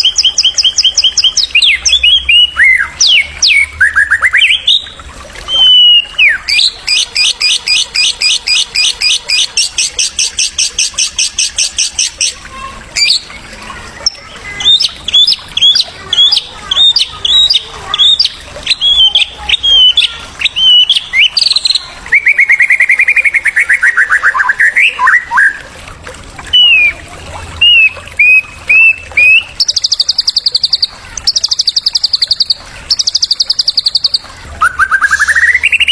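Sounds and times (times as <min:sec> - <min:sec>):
songbird whistled notes and trills: 0:00.0 - 0:12.4, 0:13.0 - 0:13.3, 0:14.0 - 0:25.6, 0:26.5 - 0:27.0, 0:27.6 - 0:35.9.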